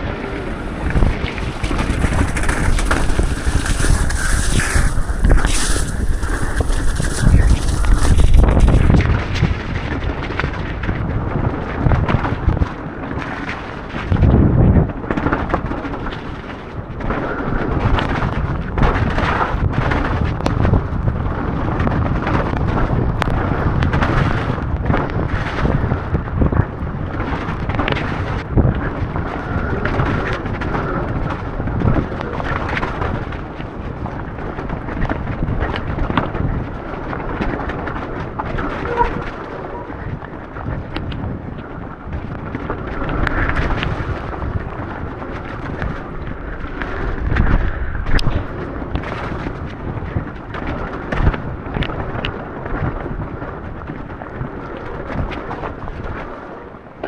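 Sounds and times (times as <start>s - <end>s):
bike knocking and clattering: 0.0s - 56.3s
tyres rumbling on dirt and rock: 0.0s - 56.4s
wind buffeting: 0.0s - 57.0s.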